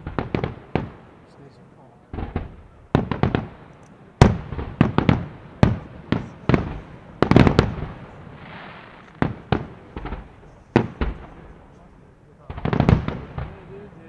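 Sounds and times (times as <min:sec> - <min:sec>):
firework shells bursting: 0:02.1 - 0:13.9.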